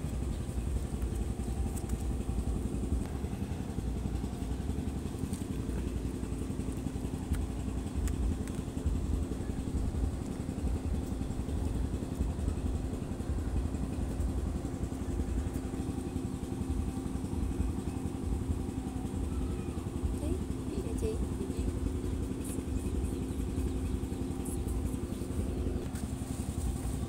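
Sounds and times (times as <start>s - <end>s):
small engine idling: 0.0s - 27.0s.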